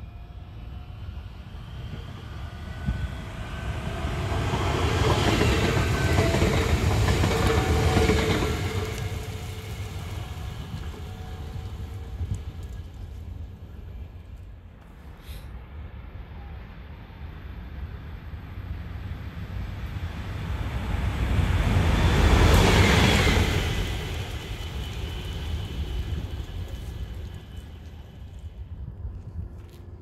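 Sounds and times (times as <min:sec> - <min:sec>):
electric locomotive passing: 0:00.0 - 0:30.0.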